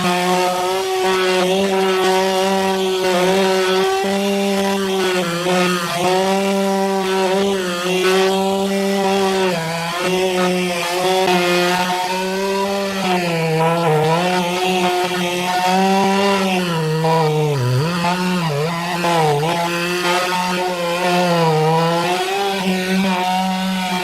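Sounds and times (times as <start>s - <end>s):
power saw cutting log: 0.0s - 24.0s.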